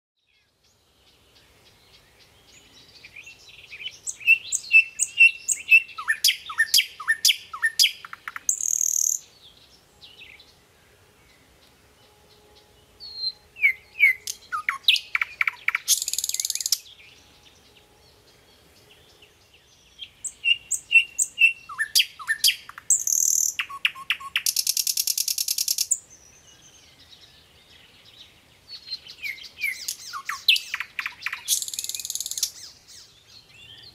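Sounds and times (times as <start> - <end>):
songbird chirping and whistling: 1.7 - 10.6, 11.3 - 33.9.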